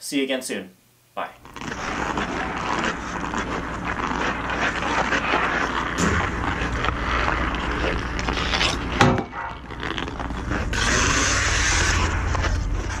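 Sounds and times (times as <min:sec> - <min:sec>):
skate blades scraping ice: 0:01.4 - 0:13.0.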